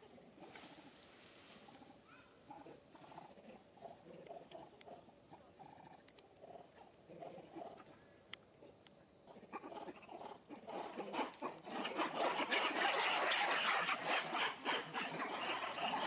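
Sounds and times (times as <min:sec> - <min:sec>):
faint animal calls: 0:00.0 - 0:16.0
high insect drone: 0:00.0 - 0:16.0.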